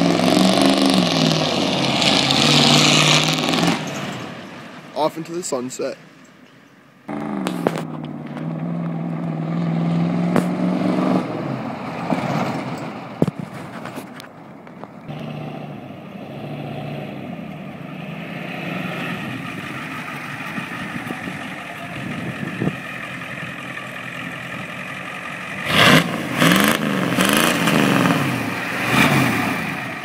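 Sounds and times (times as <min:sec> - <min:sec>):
diesel engine running and revving: 0:00.0 - 0:04.8, 0:07.1 - 0:30.0.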